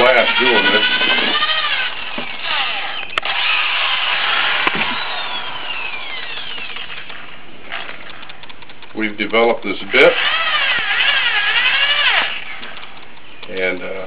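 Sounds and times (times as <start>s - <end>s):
power drill motor whine: 0.0s - 8.6s, 9.8s - 13.2s
sharp clicks: 1.4s - 3.6s, 4.6s - 14.0s.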